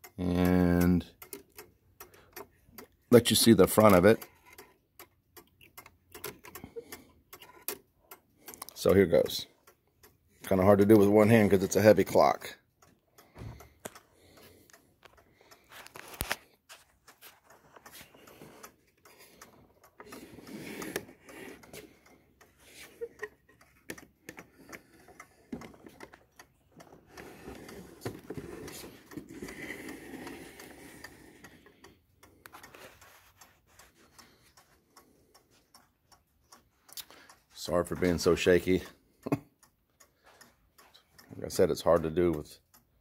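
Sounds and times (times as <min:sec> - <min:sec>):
mechanical clocks ticking: 0:00.0 - 0:43.0.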